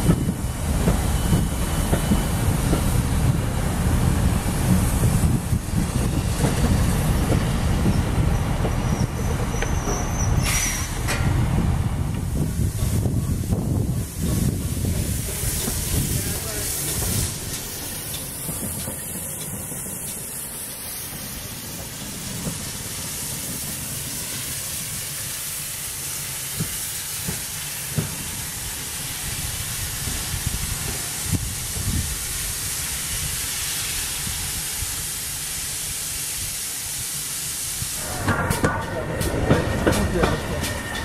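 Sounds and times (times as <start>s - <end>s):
steam hissing: 0.0s - 41.0s
steam locomotive moving: 0.0s - 41.0s.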